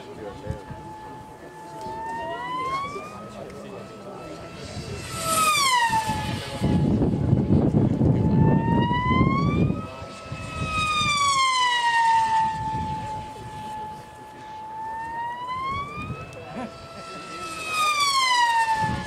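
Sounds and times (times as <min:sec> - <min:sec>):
model plane motor whine: 0:00.0 - 0:19.0.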